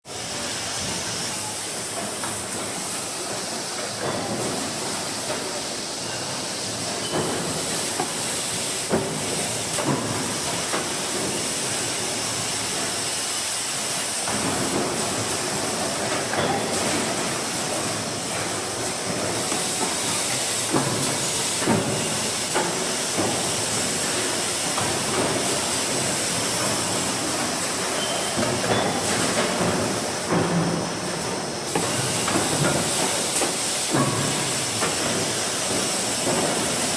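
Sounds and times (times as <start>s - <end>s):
machinery hissing: 0.1s - 36.9s.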